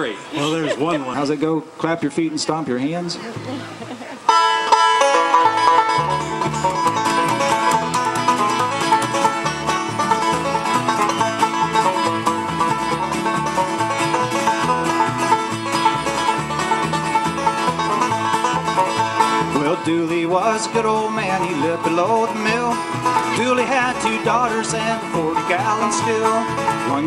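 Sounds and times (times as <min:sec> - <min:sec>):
acoustic guitar: 0:00.0 - 0:27.0
banjo picking: 0:00.0 - 0:27.0
plucked upright bass: 0:03.3 - 0:27.0.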